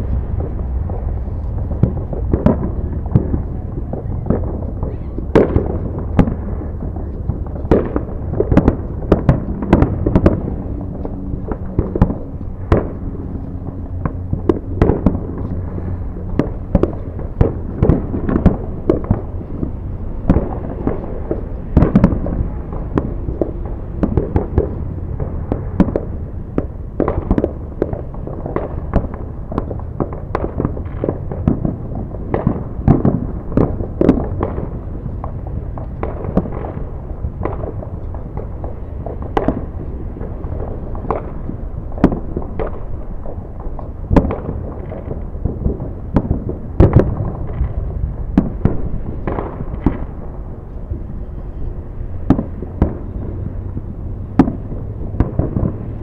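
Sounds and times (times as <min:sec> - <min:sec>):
fireworks bangs and pops: 0:00.0 - 0:56.0
steady low rumble: 0:00.0 - 0:56.0.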